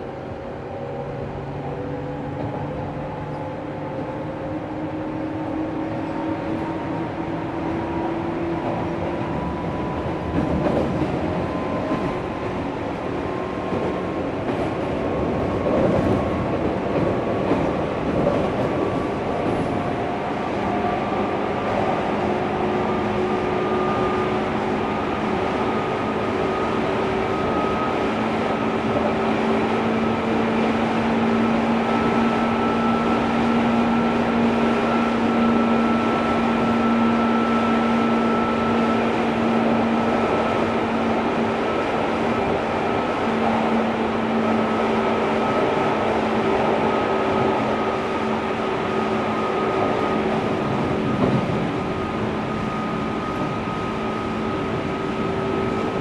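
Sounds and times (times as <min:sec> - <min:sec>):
train wheels rumbling: 0:00.0 - 0:56.0
track rattling: 0:08.3 - 0:56.0.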